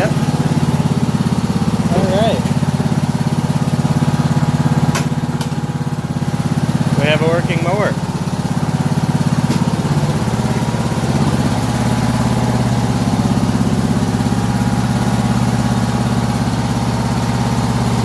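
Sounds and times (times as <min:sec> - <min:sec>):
lawn tractor engine idling: 0:00.0 - 0:18.0.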